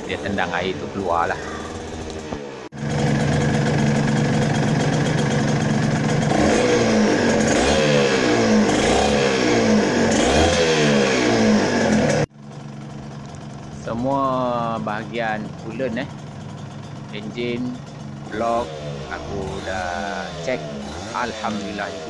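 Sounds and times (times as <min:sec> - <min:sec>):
two-stroke engine idling and revving: 0:00.0 - 0:22.0.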